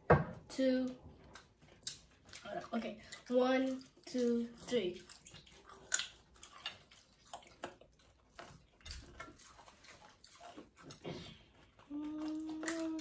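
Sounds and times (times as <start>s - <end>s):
faint crunches of chewing: 1.1s - 3.3s, 4.6s - 13.0s.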